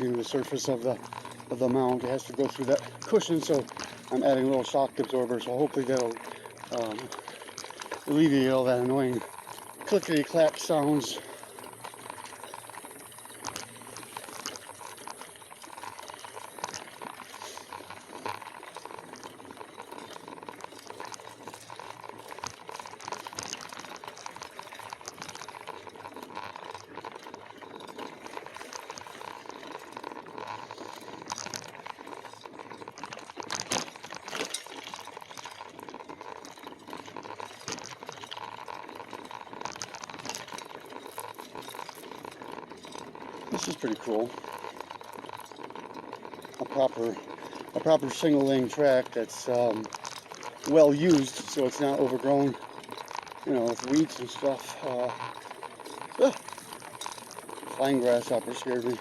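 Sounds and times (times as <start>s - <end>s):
small clicks and rattles: 0.0s - 59.0s
tyres rolling on dirt trail: 0.0s - 59.0s.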